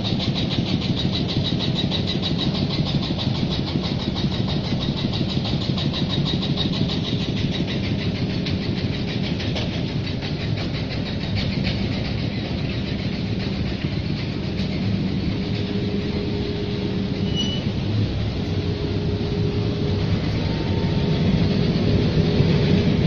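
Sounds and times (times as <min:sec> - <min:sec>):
fast even rattle: 0:00.0 - 0:23.0
rotary drum dryer droning: 0:00.0 - 0:23.0.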